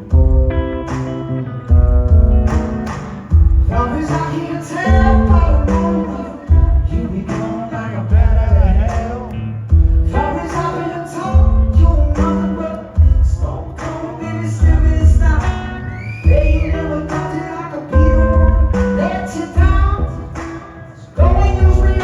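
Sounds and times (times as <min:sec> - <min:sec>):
distorted electric guitar: 0:00.0 - 0:22.0
drums: 0:00.0 - 0:22.0
person singing lead vocal: 0:03.6 - 0:22.0.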